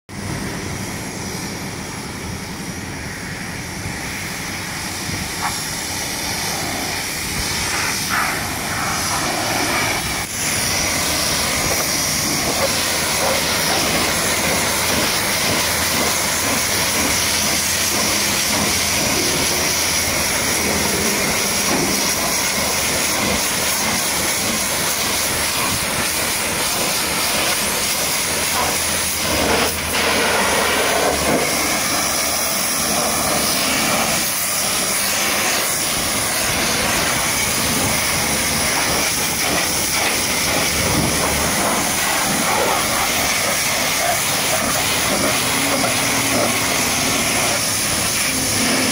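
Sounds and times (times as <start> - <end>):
pressure washer jet spraying water: 0.2 - 48.9.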